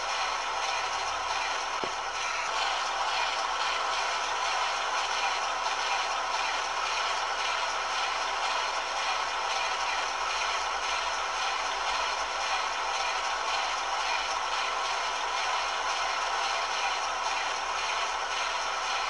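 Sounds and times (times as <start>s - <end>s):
mechanical clatter and whir: 0.0s - 19.0s.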